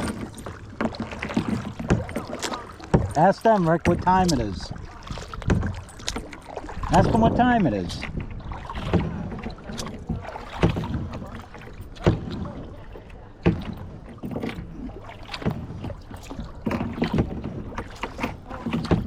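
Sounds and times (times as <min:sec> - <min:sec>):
paddle blades splashing: 0:00.0 - 0:19.0
water washing: 0:00.0 - 0:19.0.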